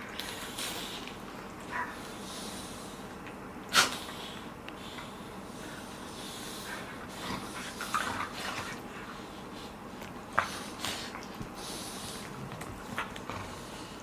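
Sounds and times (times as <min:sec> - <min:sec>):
puppies making breathy noises: 0:00.0 - 0:14.0.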